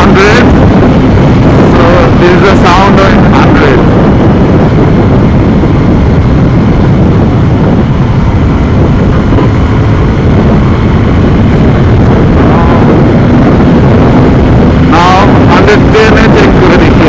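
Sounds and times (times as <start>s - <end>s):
motorcycle engine: 0.0s - 17.0s
road noise: 0.0s - 17.0s
wind buffeting microphone: 0.0s - 17.0s.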